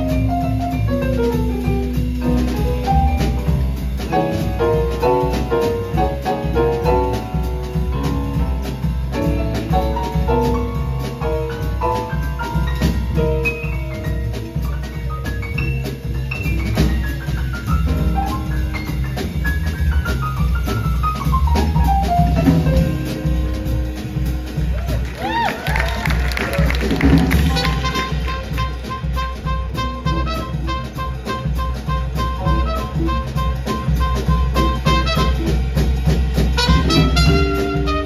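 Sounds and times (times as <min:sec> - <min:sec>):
drum kit: 0:00.0 - 0:38.0
melodic jazz solo: 0:00.0 - 0:38.0
upright bass: 0:00.0 - 0:38.0.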